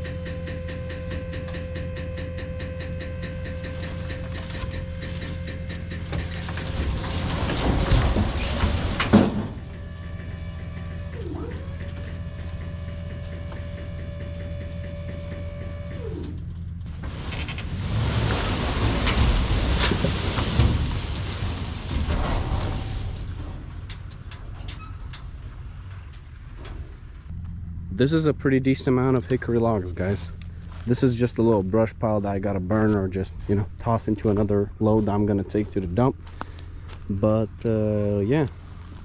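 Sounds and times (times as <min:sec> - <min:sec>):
high mechanical whine: 0:00.0 - 0:19.5, 0:20.4 - 0:39.0
vehicle engine running: 0:00.0 - 0:24.3, 0:25.4 - 0:39.0.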